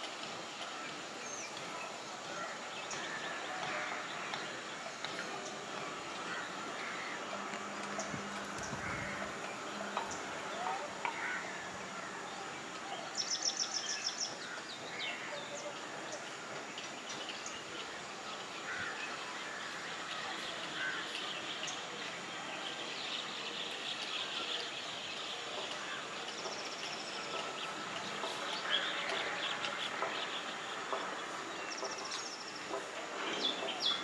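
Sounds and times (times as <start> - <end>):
outdoor background noise: 0.0 - 34.0.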